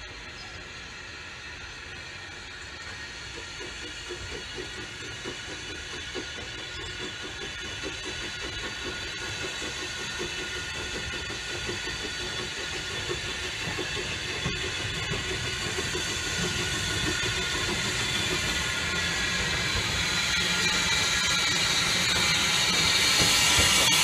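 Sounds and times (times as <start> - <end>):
steam hissing: 0.0 - 24.0
steam locomotive running slowly: 0.0 - 24.0.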